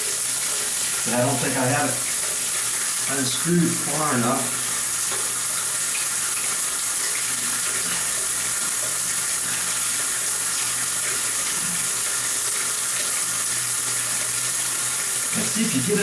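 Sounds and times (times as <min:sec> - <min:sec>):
shower water splashing on floor: 0:00.0 - 0:16.0.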